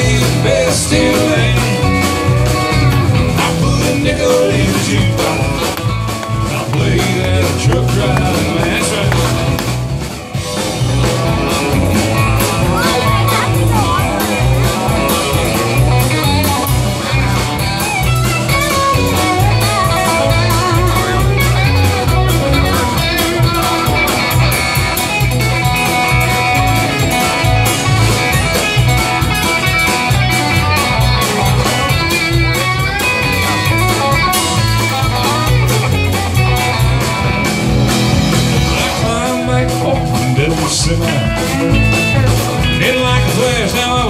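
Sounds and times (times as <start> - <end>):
live country-rock band playing: 0.0 - 44.0.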